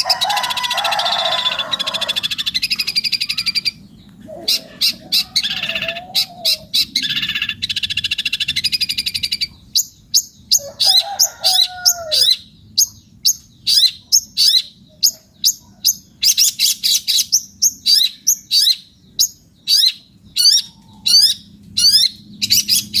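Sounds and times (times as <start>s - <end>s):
bird chattering trill: 0.0s - 23.0s
sharp high bird calls: 0.0s - 23.0s.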